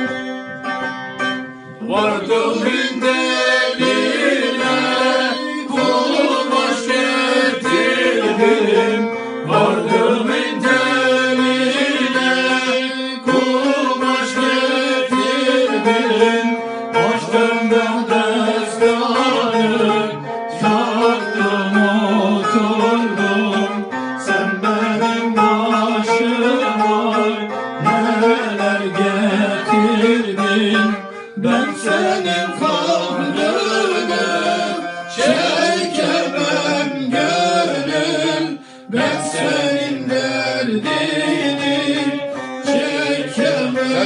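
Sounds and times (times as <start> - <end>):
long-necked lute plucked and strummed: 0.0 - 44.0
sustained melodic tones: 0.0 - 44.0.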